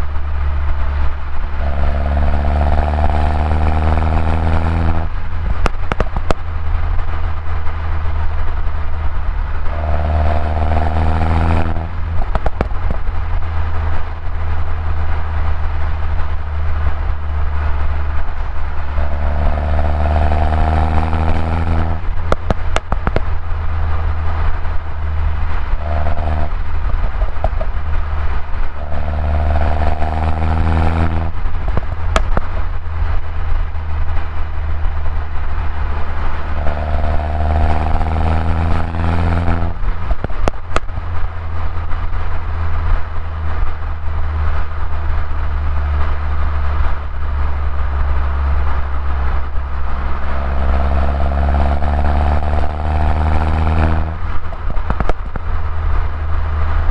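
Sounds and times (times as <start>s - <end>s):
car engine accelerating: 0.0s - 56.9s
exhaust pops and crackles: 0.0s - 56.9s.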